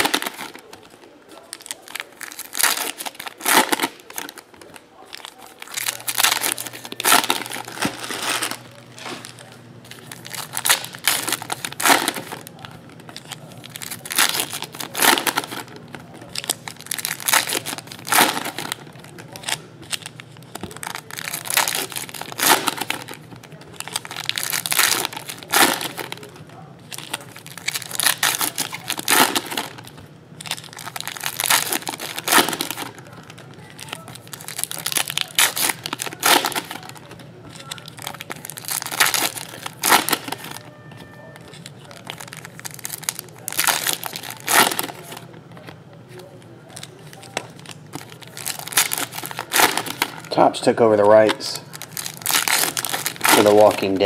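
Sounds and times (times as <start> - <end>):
foil wrappers tearing and crinkling: 0.0 - 50.3, 51.0 - 54.0.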